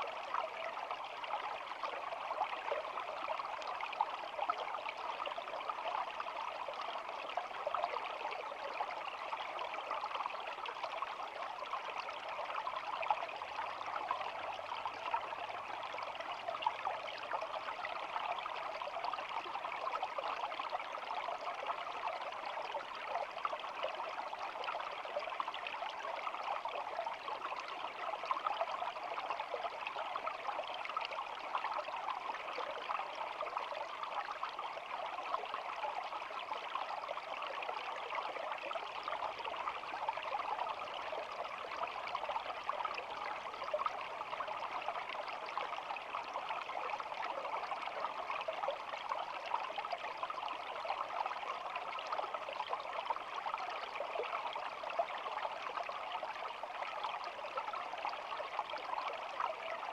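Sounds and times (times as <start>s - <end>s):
shallow stream trickling: 0.0s - 59.9s.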